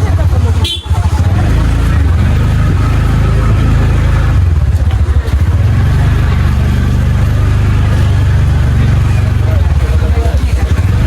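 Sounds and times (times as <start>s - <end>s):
motorcycle engine riding: 0.0s - 11.0s.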